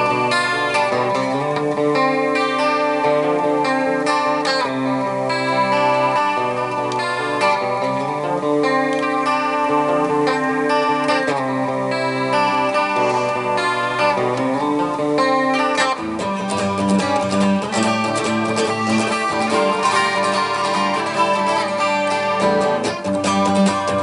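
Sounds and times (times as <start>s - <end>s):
guitar background music: 0.0s - 24.0s.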